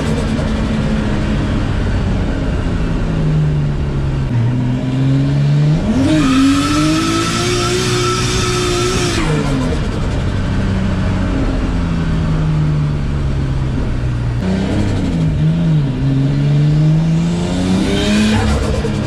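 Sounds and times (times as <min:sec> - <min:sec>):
car engine under throttle: 0:00.0 - 0:19.0.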